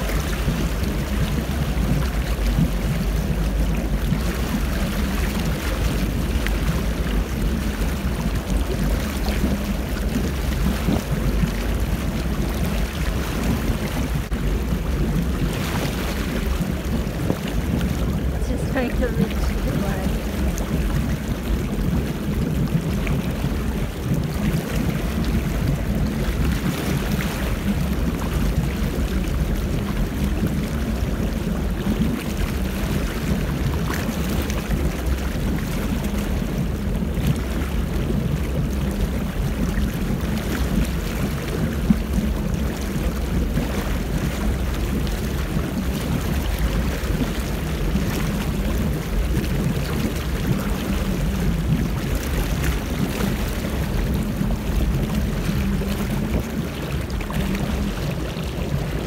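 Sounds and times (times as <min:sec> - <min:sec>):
motorboat engine running: 0:00.0 - 0:59.0
wind and water rushing: 0:00.0 - 0:59.0.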